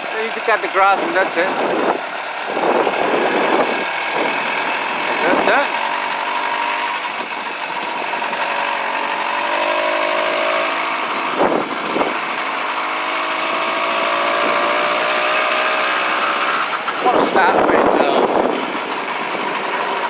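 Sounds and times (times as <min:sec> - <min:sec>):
small gasoline engine running: 0:00.0 - 0:20.0.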